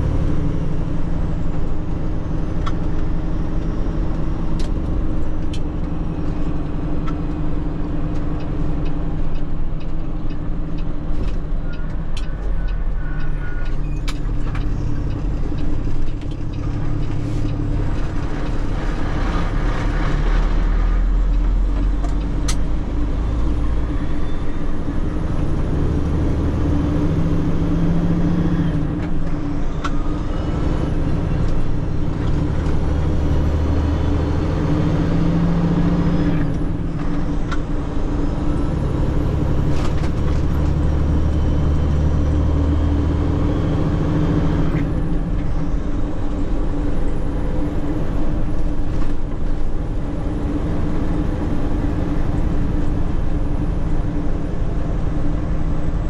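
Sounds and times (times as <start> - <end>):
road noise inside cab: 0.0 - 56.0.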